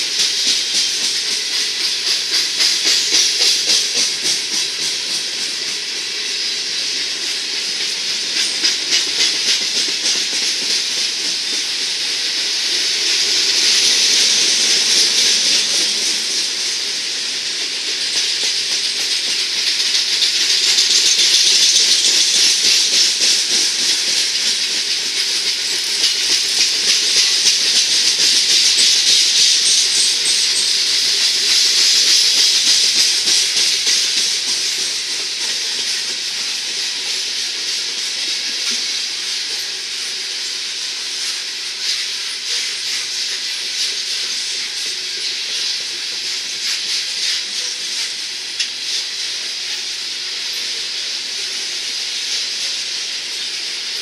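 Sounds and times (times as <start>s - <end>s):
clickety-clack of train wheels: 0.0s - 54.0s
steel wheels hissing on rail: 0.0s - 54.0s.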